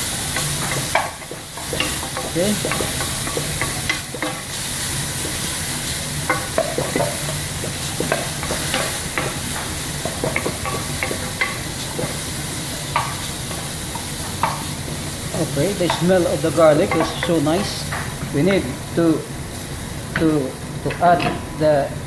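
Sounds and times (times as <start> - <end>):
garlic sizzling in hot oil: 0.0 - 22.0.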